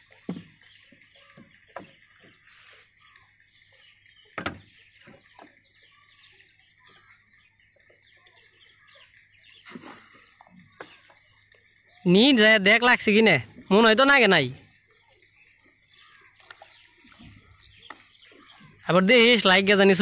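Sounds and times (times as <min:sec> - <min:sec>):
distant birds chirping: 0:00.0 - 0:20.0
faint outdoor ambience: 0:00.0 - 0:20.0.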